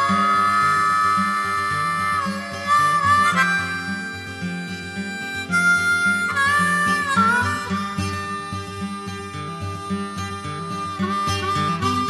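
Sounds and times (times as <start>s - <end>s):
guitar accompaniment: 0.0s - 12.0s
harmonica bending notes: 0.0s - 12.0s.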